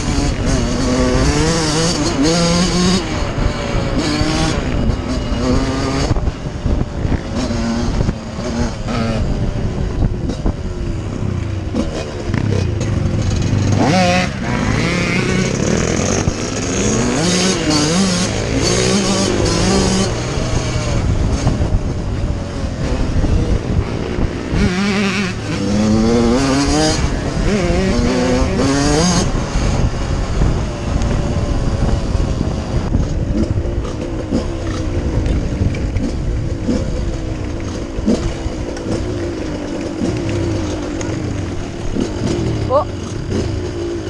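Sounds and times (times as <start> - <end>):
motocross engine revving: 0.0 - 44.0.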